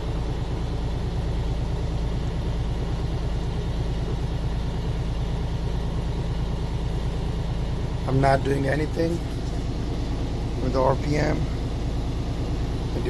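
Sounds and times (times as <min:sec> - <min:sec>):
diesel truck engine idling high: 0:00.0 - 0:13.0.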